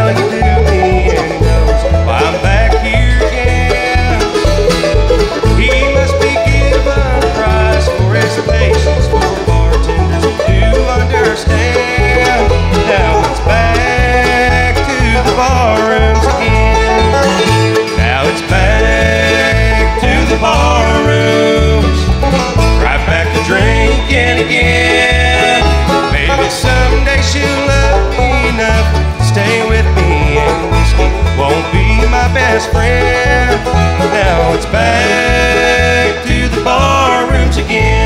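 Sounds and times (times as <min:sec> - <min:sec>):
bass playing low notes: 0:00.0 - 0:38.0
bluegrass band playing: 0:00.0 - 0:38.0
picked banjo: 0:00.0 - 0:38.0.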